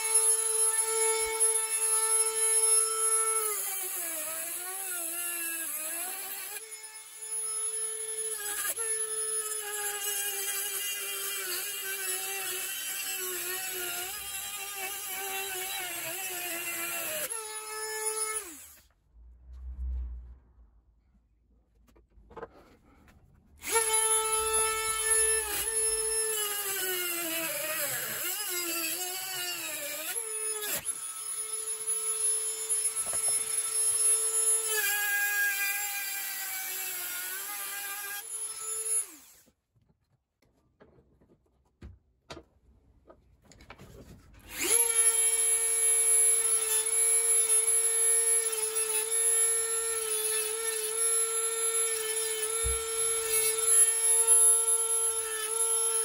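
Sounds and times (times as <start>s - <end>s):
rotary tool grinding metal: 0.0s - 18.9s, 23.6s - 39.5s, 44.4s - 56.0s.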